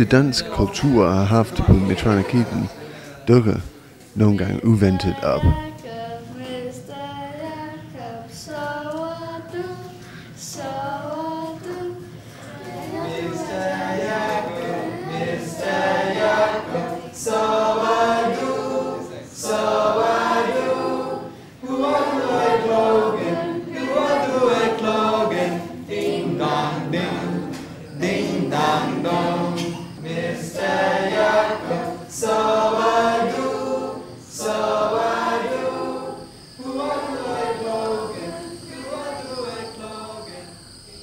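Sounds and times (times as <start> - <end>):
students singing together: 0.0 - 41.0.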